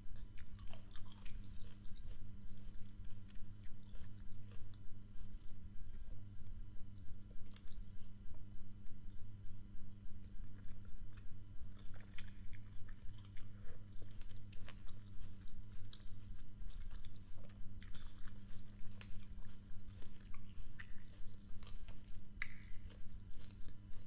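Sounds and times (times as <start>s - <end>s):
chewing crisp grapes: 0.0s - 24.0s.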